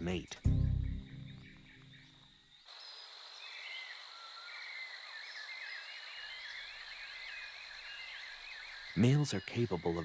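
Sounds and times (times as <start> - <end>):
frogs chirping and warbling: 0.0 - 10.0.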